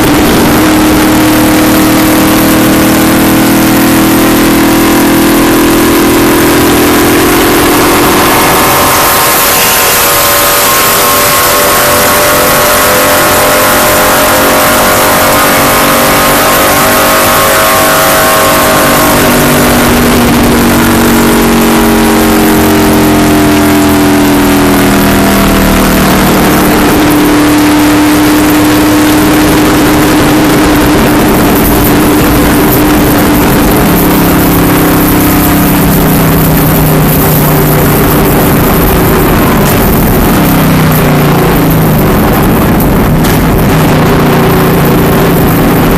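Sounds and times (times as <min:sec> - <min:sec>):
race car engine revving: 0:00.0 - 0:45.9
steady rushing noise: 0:00.0 - 0:45.9.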